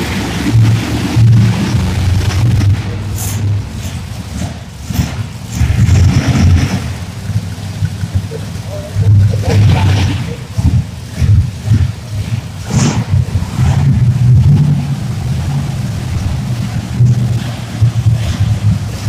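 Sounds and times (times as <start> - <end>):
monster truck engines revving: 0.0 - 19.0.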